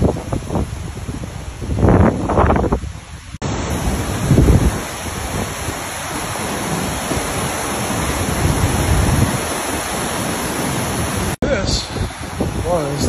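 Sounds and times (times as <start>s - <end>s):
floodwater rushing: 0.0s - 13.0s
wind buffeting microphone: 0.0s - 13.0s.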